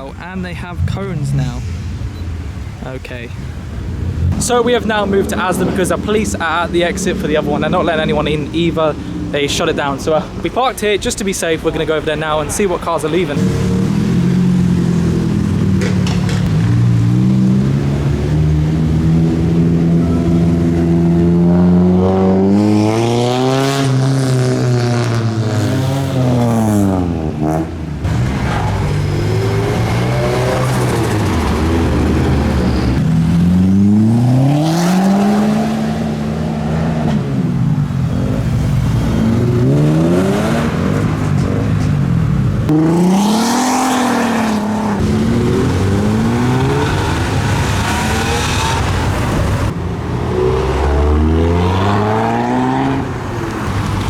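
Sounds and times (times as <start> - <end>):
car engines revving and accelerating: 0.0 - 54.0.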